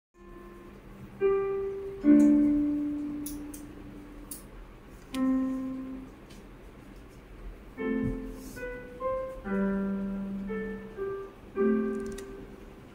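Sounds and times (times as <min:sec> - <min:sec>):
slow piano notes and chords: 0:00.2 - 0:12.9.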